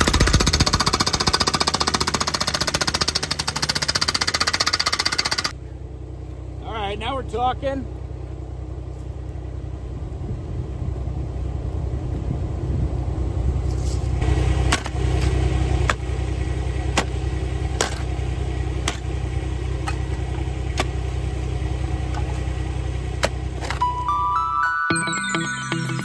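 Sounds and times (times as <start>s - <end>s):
skid steer engine idling: 0.0s - 23.9s.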